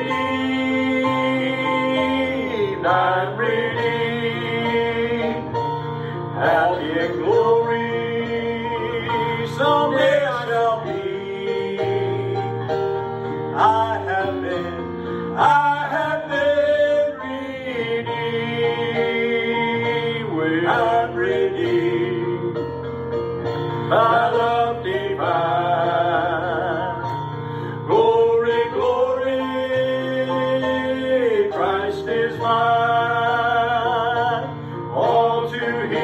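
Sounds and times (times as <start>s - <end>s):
instrumental accompaniment: 0.0s - 36.0s.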